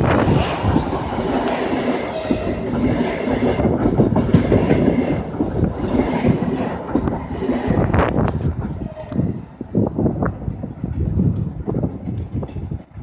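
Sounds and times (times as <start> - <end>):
electric train running past: 0.0 - 13.0.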